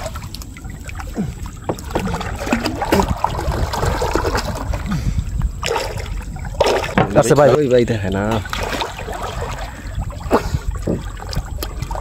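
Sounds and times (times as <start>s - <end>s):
water splashing from swimming: 0.0s - 12.0s.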